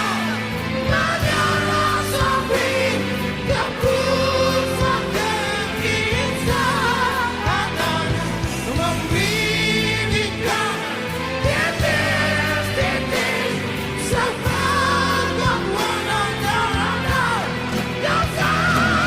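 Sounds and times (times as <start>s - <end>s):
live rock band playing: 0.0s - 19.0s
person singing with vibrato: 0.0s - 19.0s.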